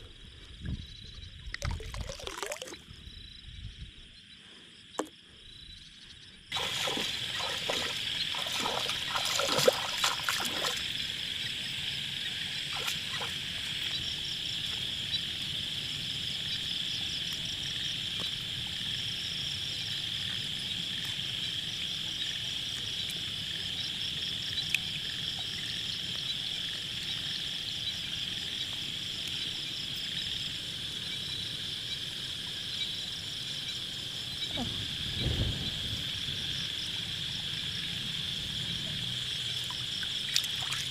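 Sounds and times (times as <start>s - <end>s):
frogs and insects trilling: 0.0s - 40.9s.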